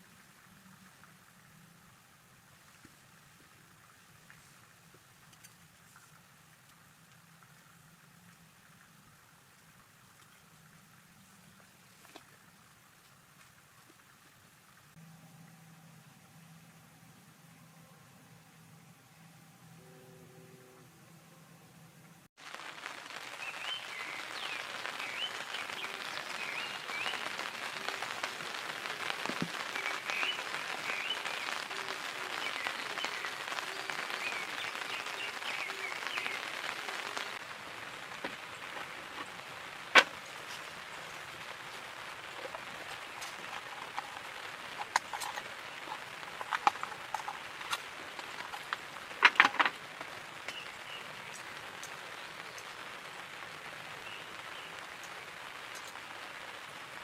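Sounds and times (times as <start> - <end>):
steady rain: 0.0 - 19.2, 22.3 - 57.0.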